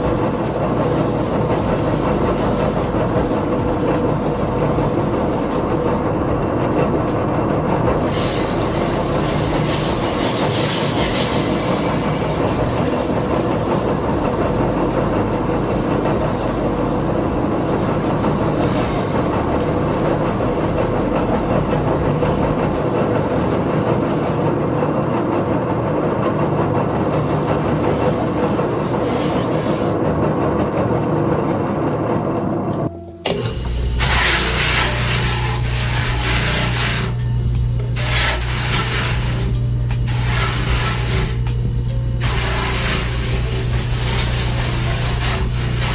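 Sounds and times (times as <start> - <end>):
power tool grinding wood: 0.0 - 32.5, 33.3 - 45.9.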